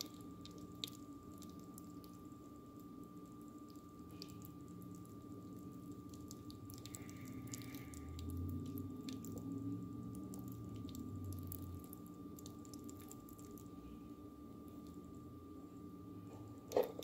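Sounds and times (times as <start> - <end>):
wet squishing of pasta: 0.0 - 15.2
faint steady hum: 0.0 - 17.0.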